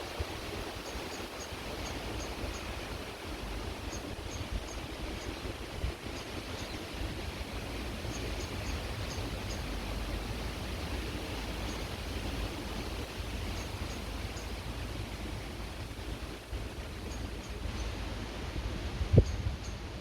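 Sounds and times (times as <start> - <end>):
creek water rushing: 0.0 - 19.1
wind rumble on microphone: 0.0 - 20.0.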